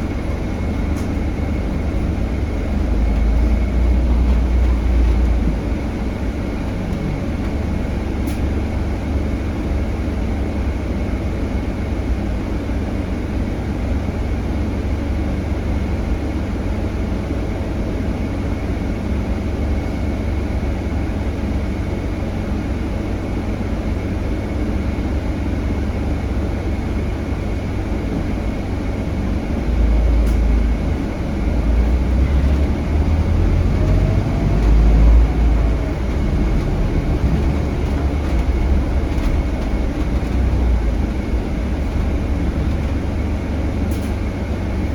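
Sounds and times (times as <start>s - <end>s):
bus diesel engine: 0.0s - 44.9s
road and tyre noise: 0.0s - 44.9s.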